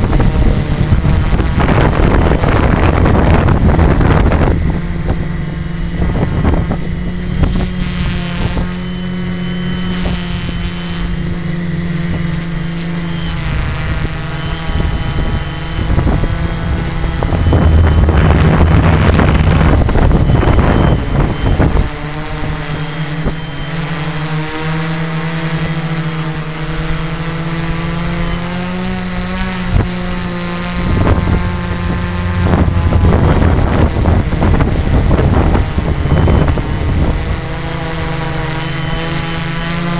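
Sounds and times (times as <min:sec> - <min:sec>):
wind buffeting microphone: 0:00.0 - 0:23.4, 0:27.8 - 0:39.9
quadcopter propellers humming: 0:00.0 - 0:39.9.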